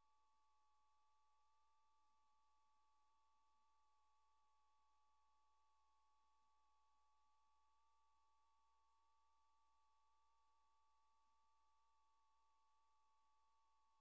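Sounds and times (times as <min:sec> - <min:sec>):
faint two-tone electronic whine: 0:00.0 - 0:14.0.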